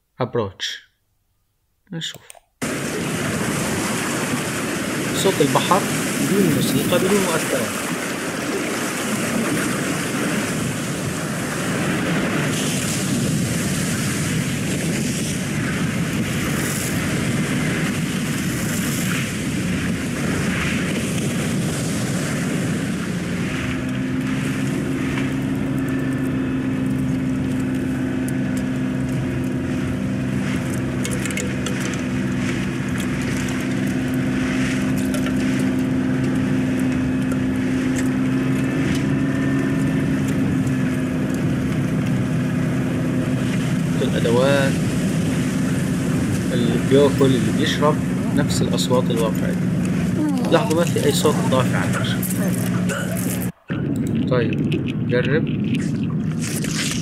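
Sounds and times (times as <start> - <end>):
waves and spray hissing: 2.6 - 53.7
low engine drone: 2.6 - 57.0.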